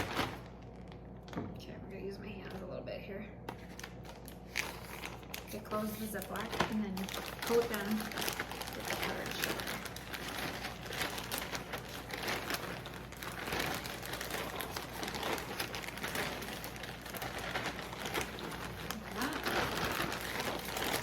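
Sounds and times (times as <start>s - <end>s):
plastic bag of cereal shaken: 0.0s - 1.0s, 3.6s - 21.0s.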